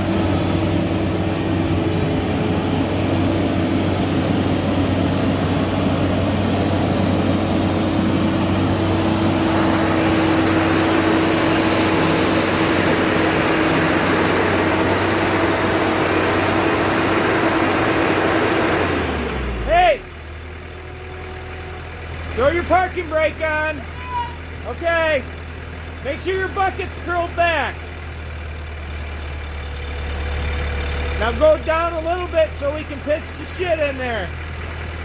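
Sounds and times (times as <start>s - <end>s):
engine whine: 0.0s - 35.0s
skid steer engine running: 0.0s - 35.0s.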